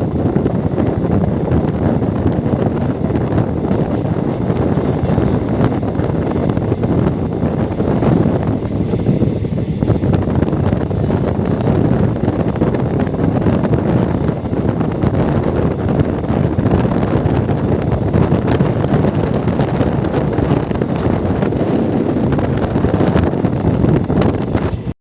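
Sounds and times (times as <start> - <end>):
train running at speed: 0.0 - 24.9
wind buffeting microphone: 0.0 - 25.0.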